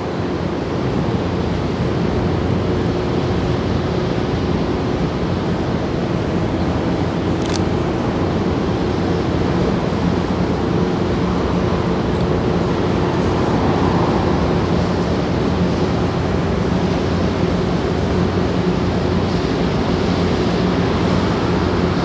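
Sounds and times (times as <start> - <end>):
ferry engine droning: 0.0 - 22.0
wind: 0.0 - 22.0.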